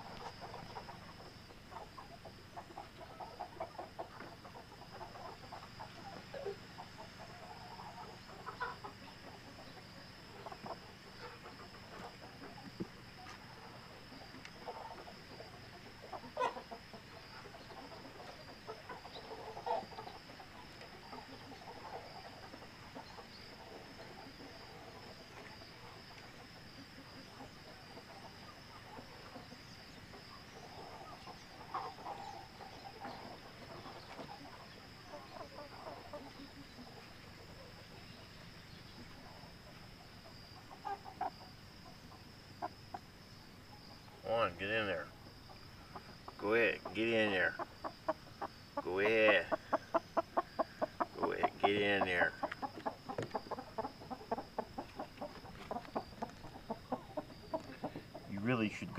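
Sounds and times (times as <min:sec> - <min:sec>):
crickets chirring: 0:00.0 - 0:58.9
hens clucking softly: 0:00.0 - 0:58.9.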